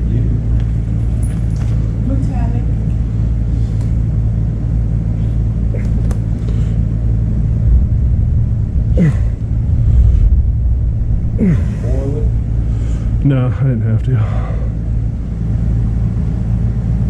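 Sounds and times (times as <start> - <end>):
fan blowing air: 0.0 - 17.0.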